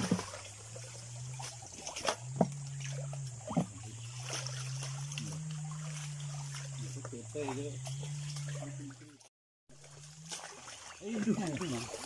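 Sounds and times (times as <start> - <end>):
muddy water splashing: 0.0 - 12.0.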